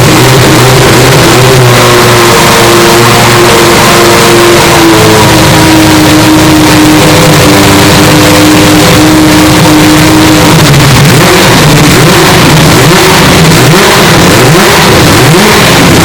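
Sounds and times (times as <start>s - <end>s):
race car engines at high revs: 0.0s - 16.0s.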